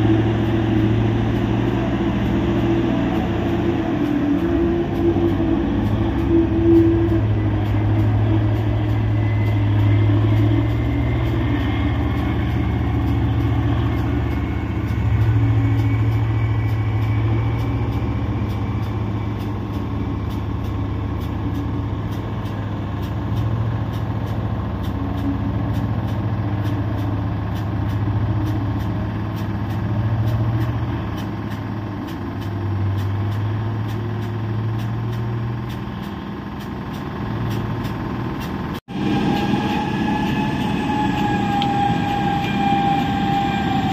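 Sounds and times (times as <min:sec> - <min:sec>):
haul truck diesel engine droning: 0:00.0 - 0:43.9.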